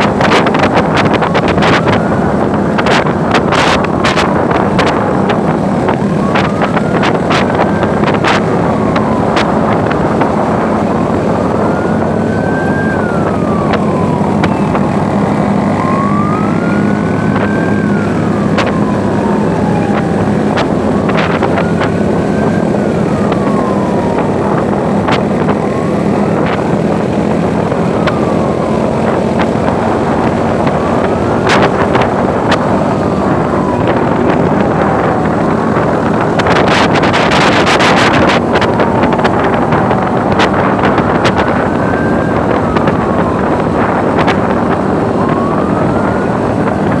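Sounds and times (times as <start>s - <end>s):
motorcycle engines running: 0.0s - 47.0s
siren wailing: 0.0s - 47.0s
wind buffeting microphone: 0.0s - 47.0s.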